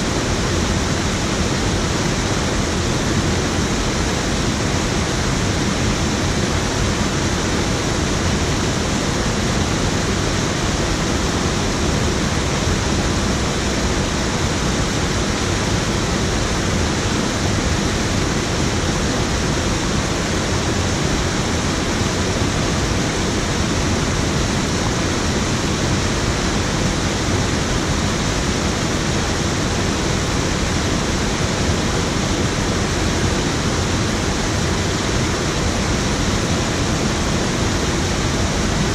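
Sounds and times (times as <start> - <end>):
water rushing over weir: 0.0 - 38.9.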